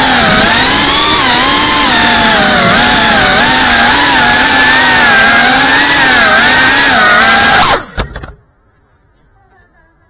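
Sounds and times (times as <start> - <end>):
drone motors whining: 0.0 - 8.3.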